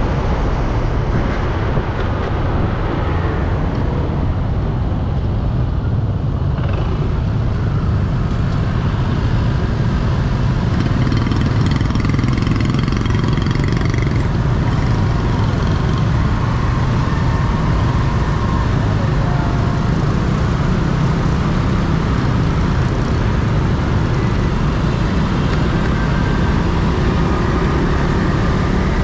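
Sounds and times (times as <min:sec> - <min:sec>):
motorbike and car traffic: 0:00.0 - 0:29.0
road rumble: 0:00.0 - 0:29.0.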